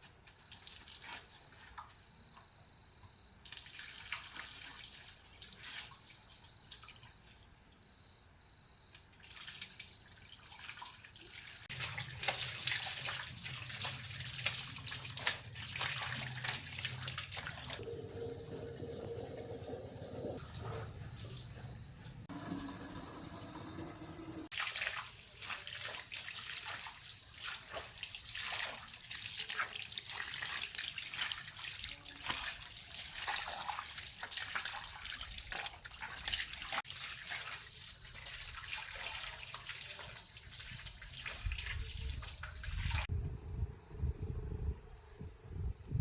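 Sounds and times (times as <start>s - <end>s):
water running and splashing: 3.4s - 7.4s, 9.1s - 43.1s.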